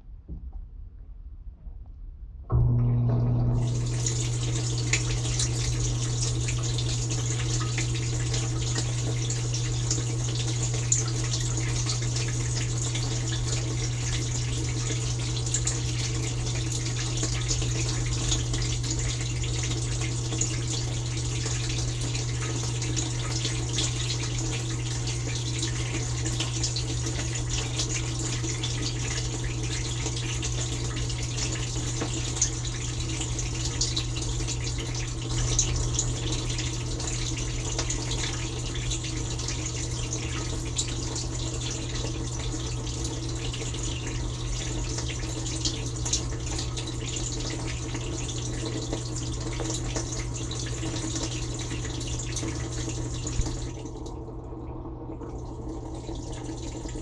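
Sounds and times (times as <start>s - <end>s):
dishwasher pump humming: 2.5s - 57.0s.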